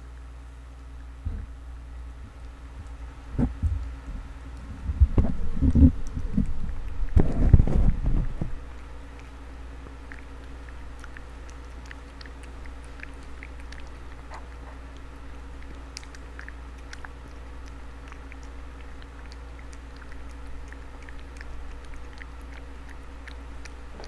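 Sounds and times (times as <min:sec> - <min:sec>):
steady low hum: 0:00.0 - 0:24.0
cat chewing wet food: 0:01.8 - 0:24.0.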